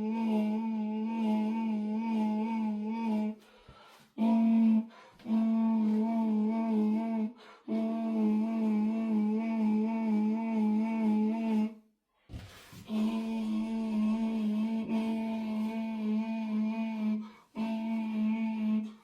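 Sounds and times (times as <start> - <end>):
person humming low note: 0.0 - 3.4, 4.2 - 11.8, 12.8 - 19.0.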